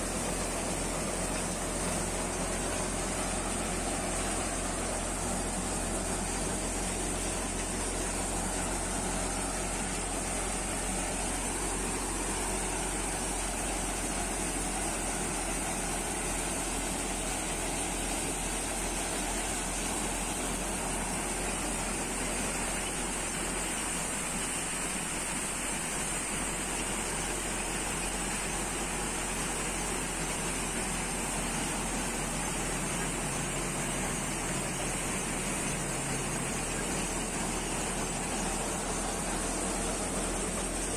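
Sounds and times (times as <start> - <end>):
thresher running under load: 0.0 - 40.9.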